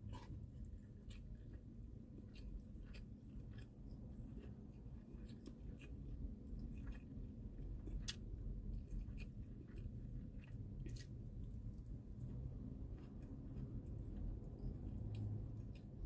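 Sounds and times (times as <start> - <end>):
faint low hum: 0.0 - 16.0
soft chewing: 0.0 - 16.0.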